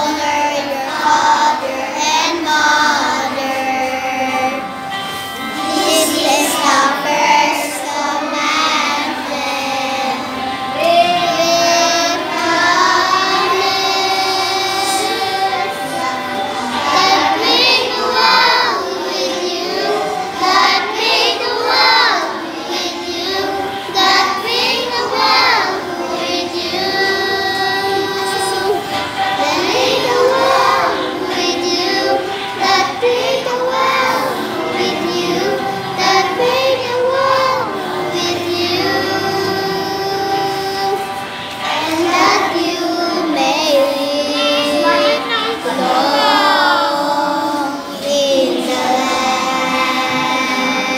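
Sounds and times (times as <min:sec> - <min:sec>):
children singing: 0:00.0 - 0:50.9.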